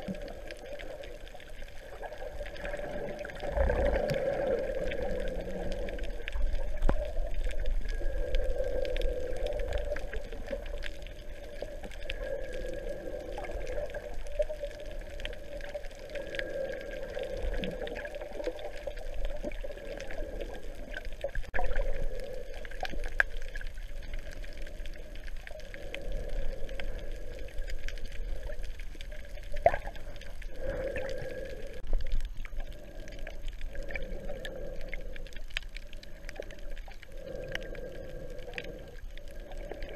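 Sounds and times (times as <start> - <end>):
underwater sloshing and gurgling: 0.0 - 39.9.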